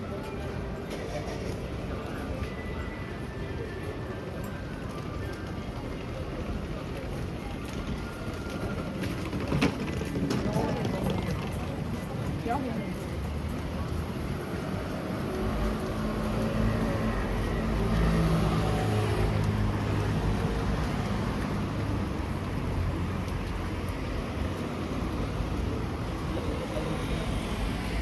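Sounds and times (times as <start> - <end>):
low road noise rumble: 0.0 - 28.0.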